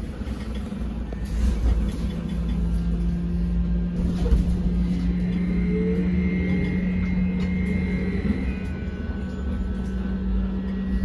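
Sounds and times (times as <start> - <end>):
road rumble: 0.0 - 11.0
steady hum: 0.0 - 11.0.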